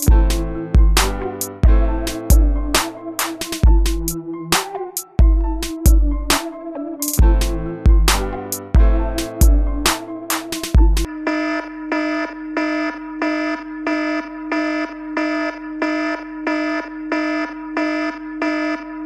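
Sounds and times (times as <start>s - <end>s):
electronic music with pulsing synth: 0.0s - 19.0s.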